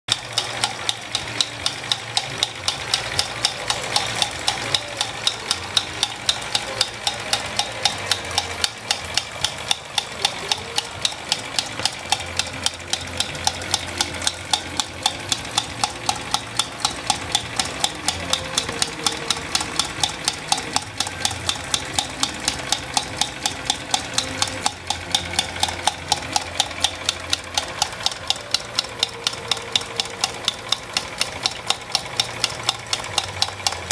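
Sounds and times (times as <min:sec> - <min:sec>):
regular mechanical clicking: 0:00.1 - 0:33.9
toy steam engine hissing: 0:00.2 - 0:33.9.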